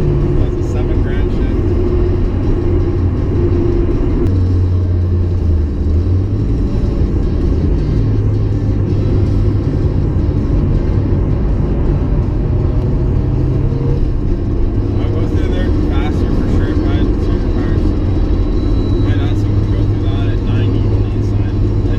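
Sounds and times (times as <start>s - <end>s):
car engine droning: 0.0s - 21.9s.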